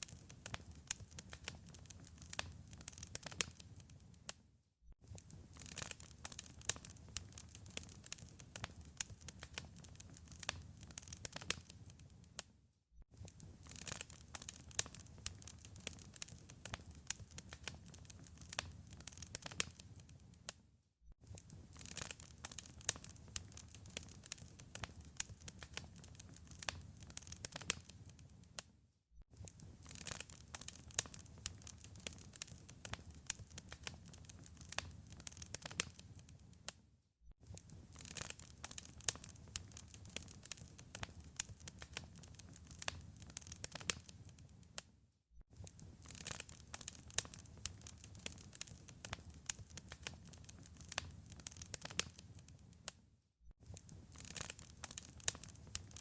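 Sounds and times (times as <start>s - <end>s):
wood fire crackling: 0.0s - 4.4s, 5.0s - 12.4s, 13.2s - 20.6s, 21.2s - 28.6s, 29.4s - 36.8s, 37.4s - 44.8s, 45.6s - 53.0s, 53.6s - 56.0s.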